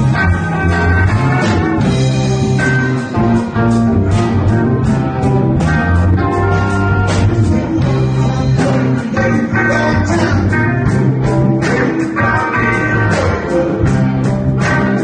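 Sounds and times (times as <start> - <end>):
drum kit beats: 0.0 - 15.0
electric bass line: 0.0 - 15.0
electric guitars: 0.0 - 15.0.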